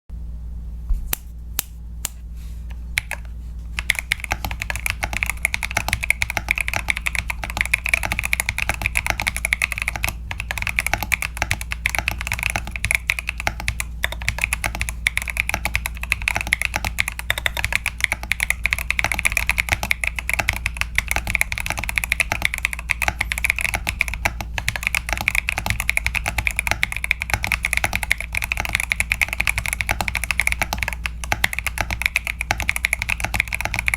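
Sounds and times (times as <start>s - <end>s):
mechanical keyboard typing: 3.0s - 33.9s.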